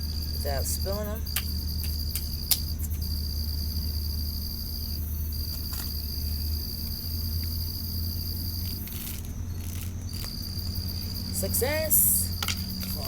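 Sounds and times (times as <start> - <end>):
cricket trilling: 0.0 - 13.0
steady low hum: 0.0 - 13.0.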